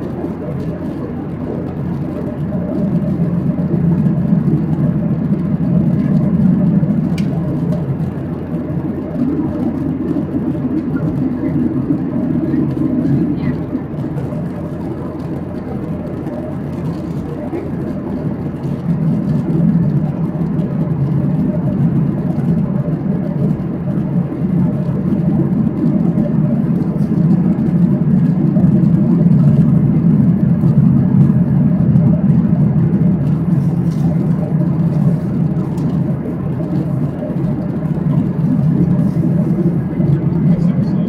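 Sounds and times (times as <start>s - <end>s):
airplane cabin engine drone: 0.0s - 41.0s.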